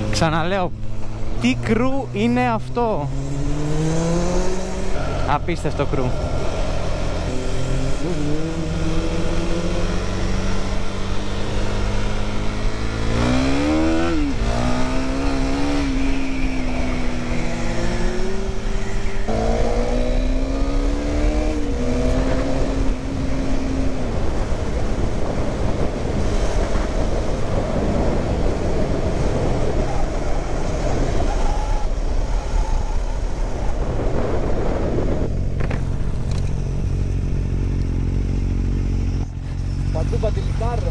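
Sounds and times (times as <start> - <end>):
vehicle engine accelerating: 0.0 - 40.9
wind and road noise: 0.0 - 40.9.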